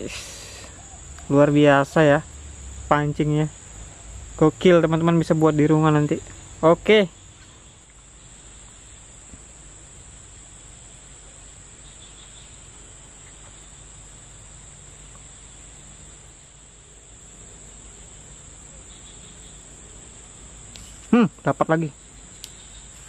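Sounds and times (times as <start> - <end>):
faint outdoor hiss: 0.0 - 23.0
insects trilling: 0.0 - 23.0.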